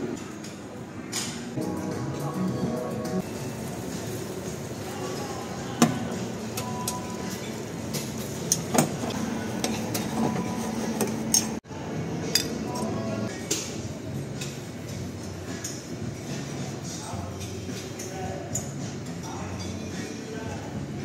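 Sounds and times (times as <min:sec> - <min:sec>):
background music: 0:01.5 - 0:21.0.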